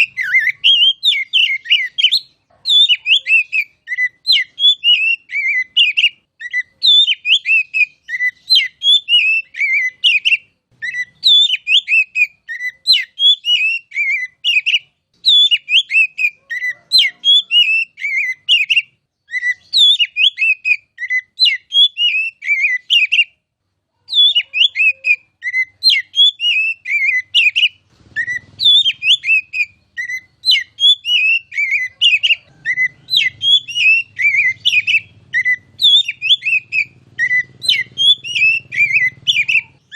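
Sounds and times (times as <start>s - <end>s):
bird singing whistled notes: 0.0s - 23.4s, 24.1s - 39.9s.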